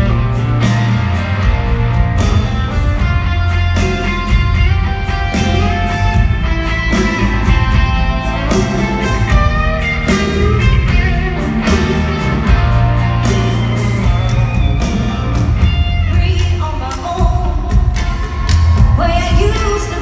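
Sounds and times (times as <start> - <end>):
live country-rock band: 0.0 - 20.0.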